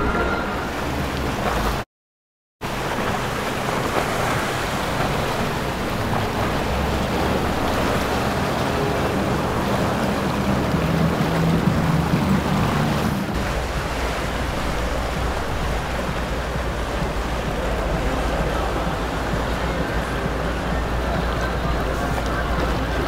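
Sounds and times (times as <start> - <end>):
water rushing around boats: 0.0 - 1.9, 2.6 - 23.0
low engine hum: 2.7 - 23.0.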